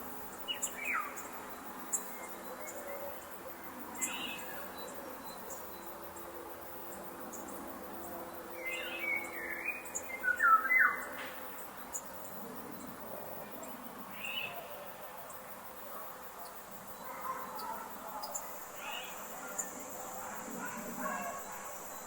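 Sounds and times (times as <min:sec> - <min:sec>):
soft forest background: 0:00.0 - 0:22.0.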